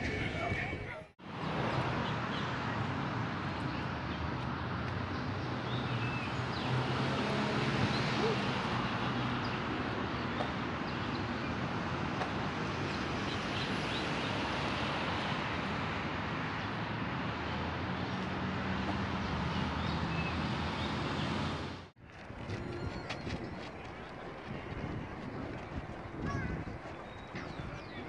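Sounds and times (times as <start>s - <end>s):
distant traffic rumble: 0.0s - 28.0s.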